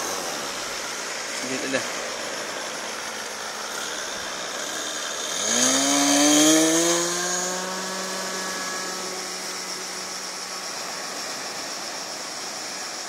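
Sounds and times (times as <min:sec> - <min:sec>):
model plane engine whine: 0:00.0 - 0:13.0
steady background hiss: 0:00.0 - 0:13.0.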